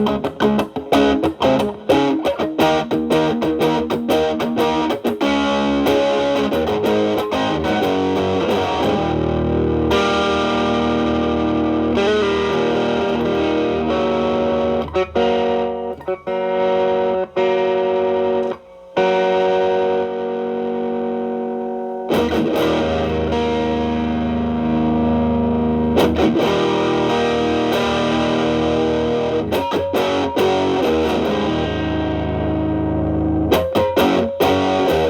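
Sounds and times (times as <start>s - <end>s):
overdriven electric guitar: 0.0s - 35.0s.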